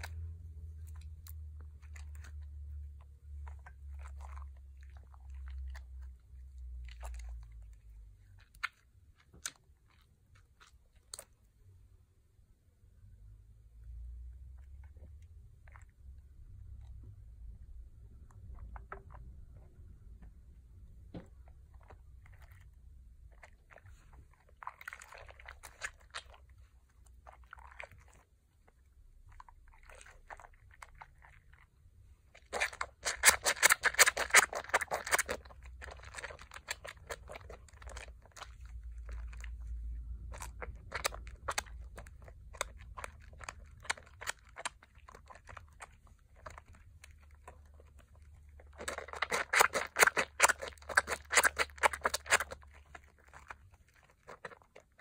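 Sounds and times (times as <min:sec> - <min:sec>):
wet soap squishing: 0:00.0 - 0:55.0.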